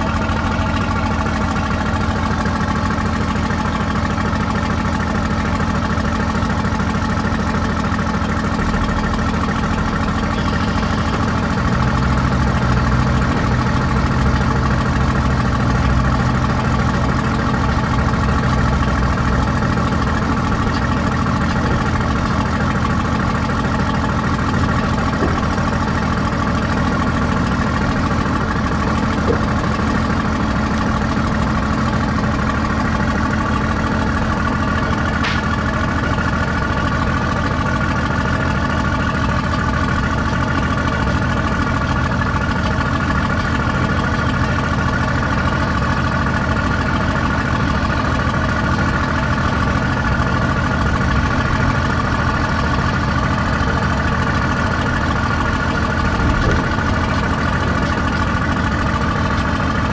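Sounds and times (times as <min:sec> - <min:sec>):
large engine droning: 0:00.0 - 0:59.9.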